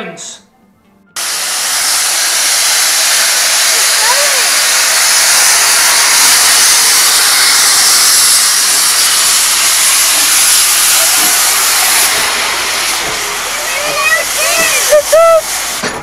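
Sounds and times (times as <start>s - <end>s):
steam locomotive venting steam: 1.2s - 16.0s.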